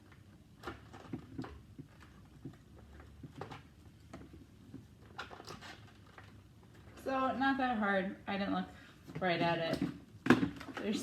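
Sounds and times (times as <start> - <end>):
plastic parts knocking and clicking: 0.0 - 7.0, 9.1 - 11.0.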